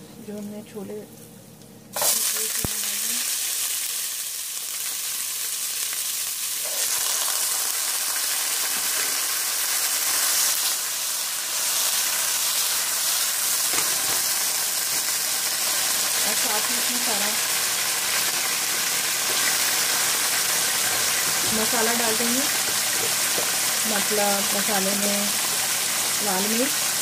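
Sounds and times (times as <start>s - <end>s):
chickpeas sizzling in hot oil: 1.9s - 27.0s.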